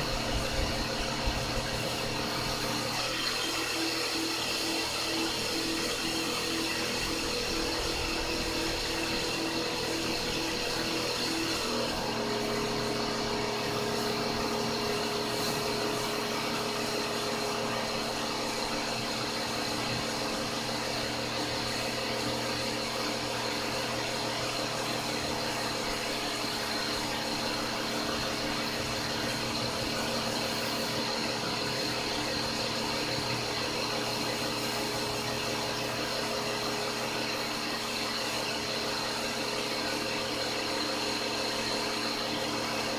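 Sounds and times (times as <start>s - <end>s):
pump running steadily: 0.0s - 42.9s.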